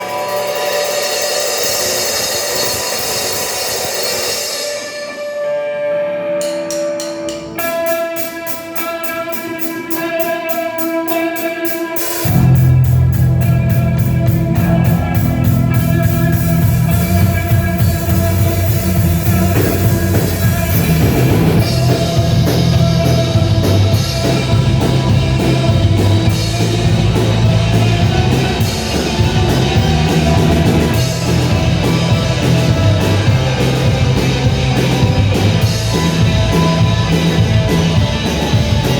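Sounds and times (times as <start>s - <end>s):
rock music: 0.0s - 38.9s.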